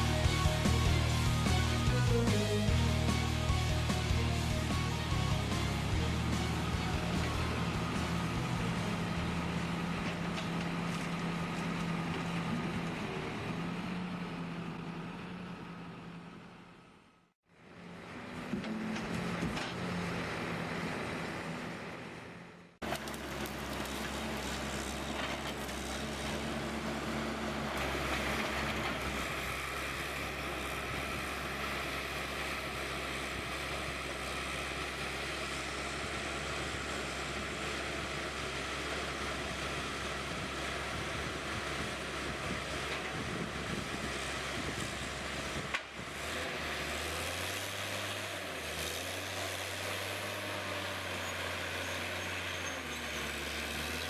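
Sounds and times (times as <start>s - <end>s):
heavy machinery engine running: 0.0s - 54.0s
low engine hum: 0.0s - 54.0s.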